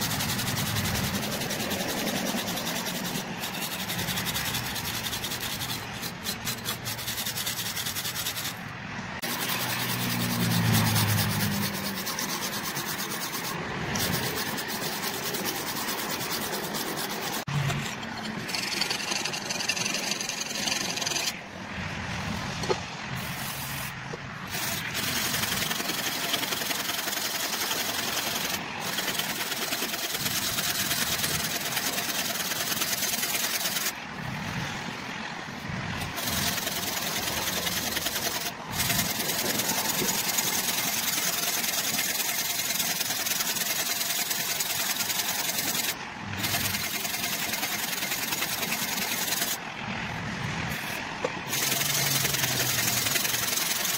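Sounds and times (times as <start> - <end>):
sanding block rasping on metal: 0.0 - 21.4, 22.6 - 34.0, 36.0 - 49.6, 50.7 - 53.9.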